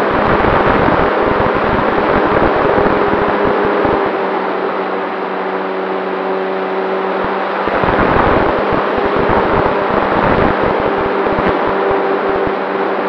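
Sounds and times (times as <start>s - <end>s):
wind buffeting microphone: 0.0s - 4.9s, 7.2s - 13.0s
model plane propeller drone: 0.0s - 13.0s.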